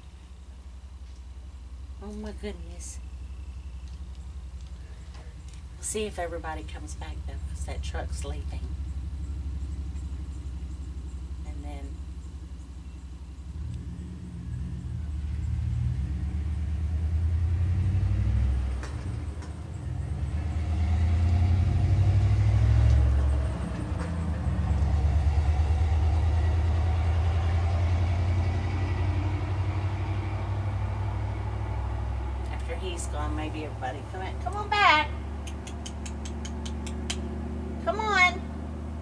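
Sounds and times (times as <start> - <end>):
truck engine rumbling: 0.0 - 39.0.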